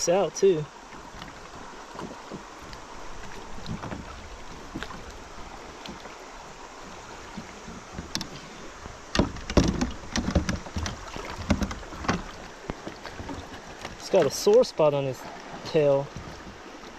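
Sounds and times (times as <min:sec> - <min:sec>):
river water rushing: 0:00.0 - 0:16.9
knocks and thumps in a kayak: 0:00.8 - 0:16.9.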